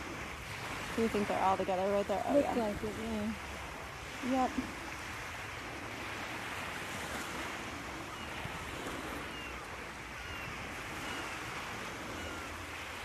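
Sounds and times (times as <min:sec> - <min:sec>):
ocean surf: 0:00.0 - 0:13.0
wind noise: 0:00.0 - 0:13.0.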